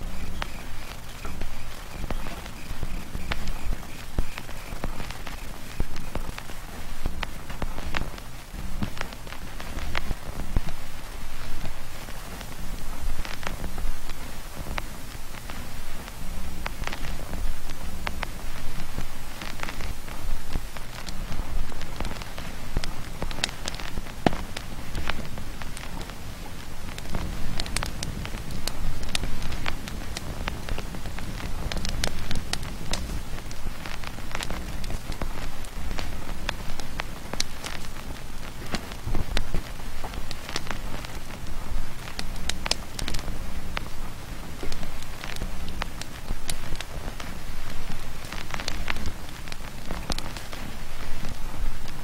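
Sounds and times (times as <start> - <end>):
crackles and pops: 0.0 - 52.0.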